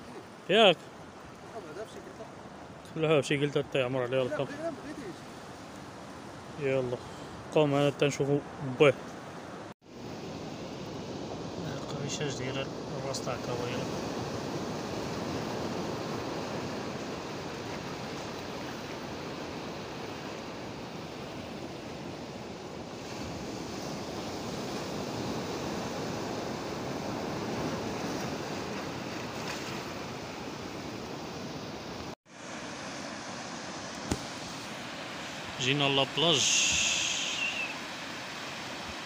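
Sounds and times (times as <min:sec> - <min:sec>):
sea surf on rocky shore: 0:00.0 - 0:39.0.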